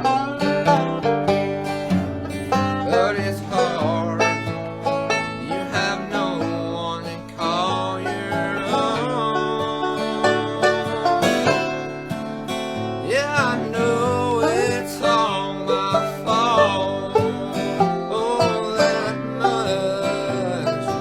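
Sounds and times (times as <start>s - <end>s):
acoustic guitar picking: 0.0s - 21.0s
banjo picking: 0.0s - 21.0s
sliding lead melody: 0.0s - 21.0s.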